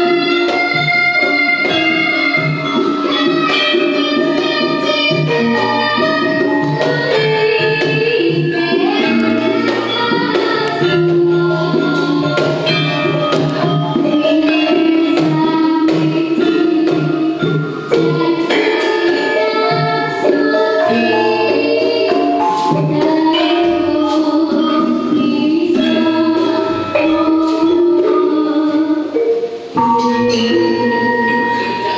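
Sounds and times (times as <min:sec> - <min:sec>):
hand drum: 0:00.0 - 0:31.9
metallophones and gongs ringing: 0:00.0 - 0:31.9
young voices singing: 0:00.0 - 0:31.9.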